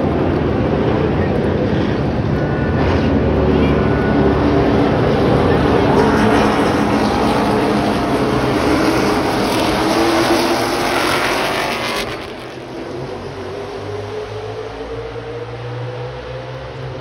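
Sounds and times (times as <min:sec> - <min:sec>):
race cars passing loudly: 0:00.0 - 0:17.0.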